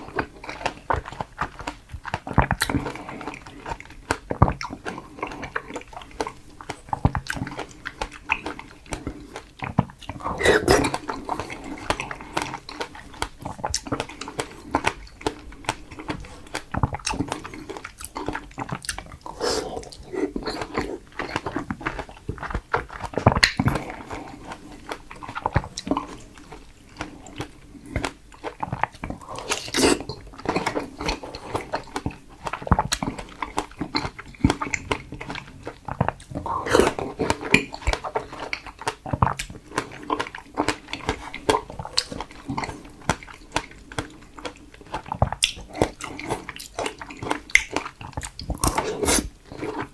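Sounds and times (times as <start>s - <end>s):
chewing and biting strawberries: 0.0s - 49.9s
mouth clicks and smacks: 0.0s - 49.9s.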